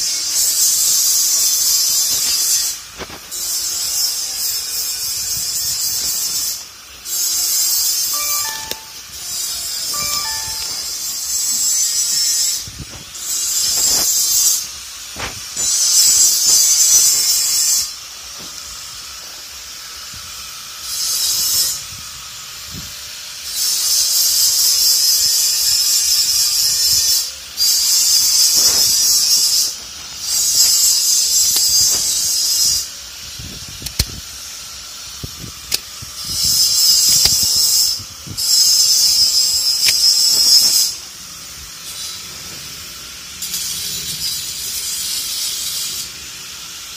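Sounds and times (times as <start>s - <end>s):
electric grinder grinding iron: 0.0s - 46.9s.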